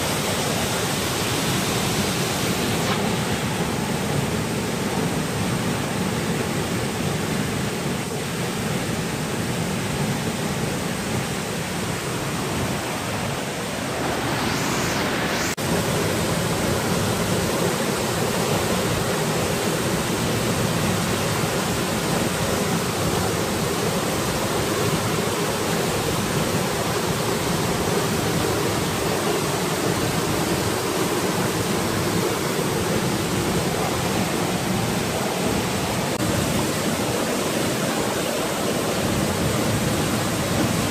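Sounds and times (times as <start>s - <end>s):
waterfall rushing into pool: 0.0s - 40.9s.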